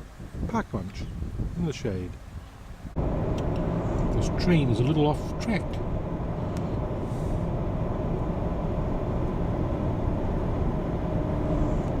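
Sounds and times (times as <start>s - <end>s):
road train engine rumble: 2.1s - 12.0s.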